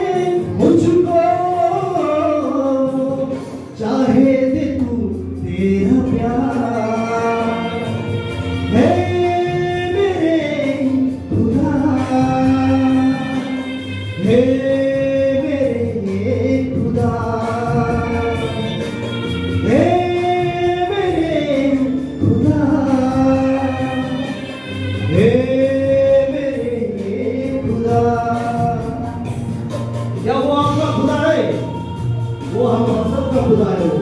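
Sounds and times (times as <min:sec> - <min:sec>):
man singing into microphone: 0:00.0 - 0:34.0.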